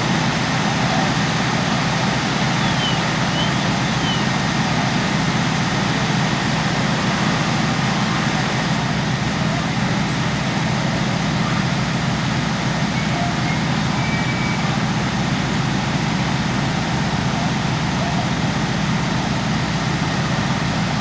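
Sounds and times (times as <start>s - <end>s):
heavy engines idling: 0.0s - 21.0s.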